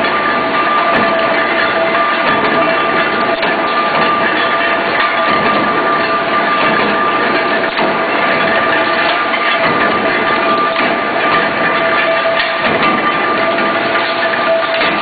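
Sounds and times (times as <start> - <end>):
mechanical clatter: 0.0 - 15.0
metal knocks: 0.0 - 15.0
two-tone machine whine: 0.0 - 15.0.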